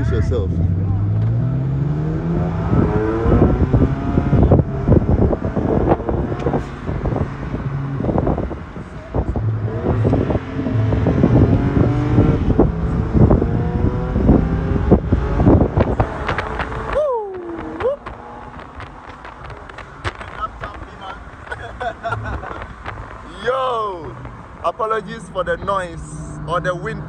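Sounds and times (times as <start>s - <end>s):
wind buffeting microphone: 0.0s - 26.0s
car engine accelerating: 0.0s - 27.0s.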